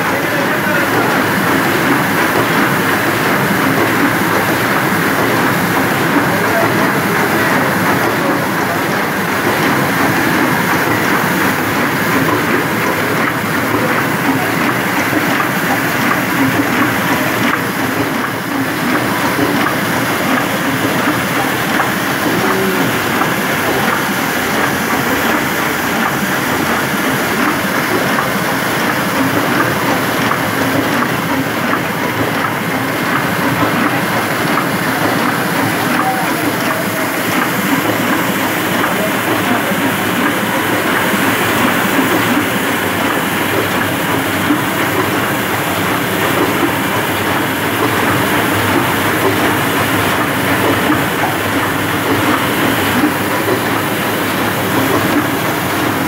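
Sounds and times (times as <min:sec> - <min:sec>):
printing press clattering: 0:00.0 - 0:56.0.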